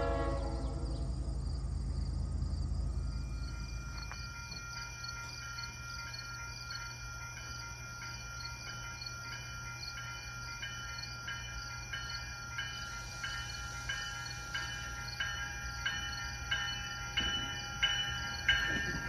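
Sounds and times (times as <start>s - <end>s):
low railway rumble: 0.0s - 19.0s
level-crossing bell ringing: 3.0s - 19.0s.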